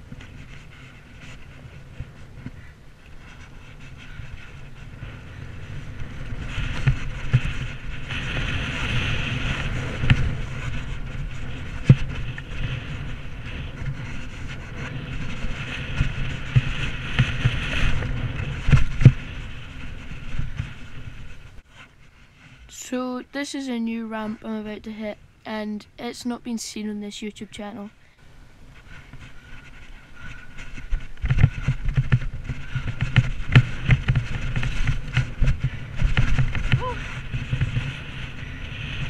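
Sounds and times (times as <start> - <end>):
bike rattling: 0.0 - 21.7, 28.8 - 39.0
wind rushing over microphone: 0.0 - 25.4, 28.0 - 39.0.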